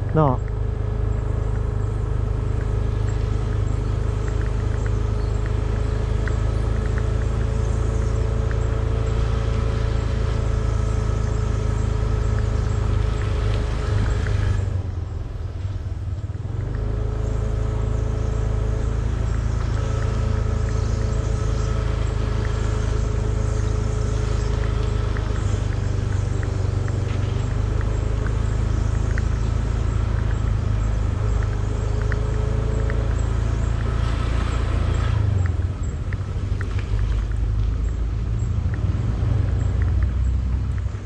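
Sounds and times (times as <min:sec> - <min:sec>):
wind rumble on microphone: 0:01.1 - 0:41.0.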